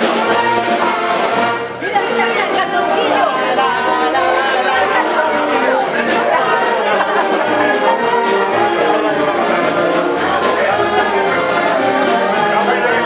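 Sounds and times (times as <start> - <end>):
brass marching band playing: 0.0 - 13.0.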